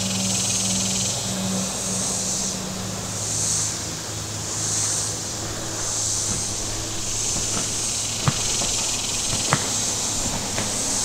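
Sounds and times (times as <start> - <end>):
cicadas buzzing: 0.0 - 11.0
motorboat engine hum: 0.0 - 11.0.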